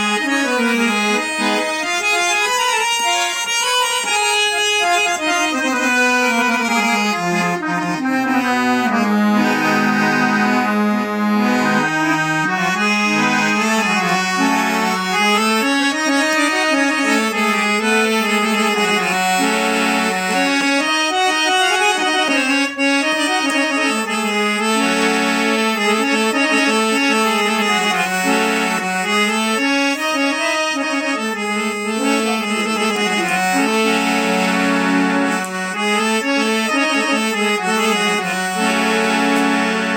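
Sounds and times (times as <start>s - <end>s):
harmonium and keyboard melody: 0.0s - 39.9s.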